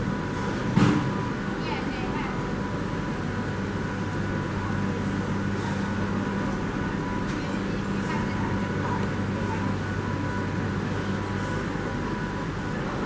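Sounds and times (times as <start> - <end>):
train humming: 0.0 - 13.0.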